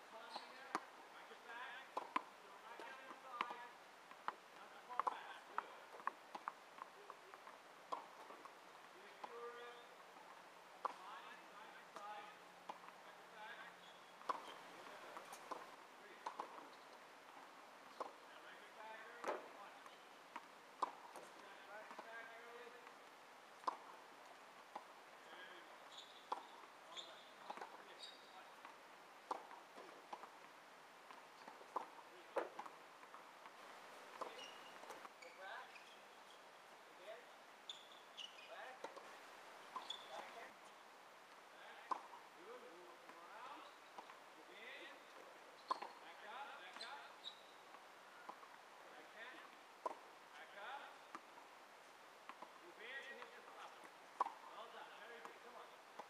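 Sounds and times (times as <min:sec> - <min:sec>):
tennis balls bouncing on hard court: 0:00.2 - 0:36.4, 0:37.7 - 0:40.6, 0:41.8 - 0:48.6, 0:49.4 - 0:51.4, 0:52.3 - 0:56.0
tennis balls struck by rackets: 0:00.3 - 0:35.2, 0:38.7 - 0:39.1, 0:41.8 - 0:46.9, 0:47.7 - 0:48.6, 0:49.4 - 0:51.4, 0:52.2 - 0:56.0.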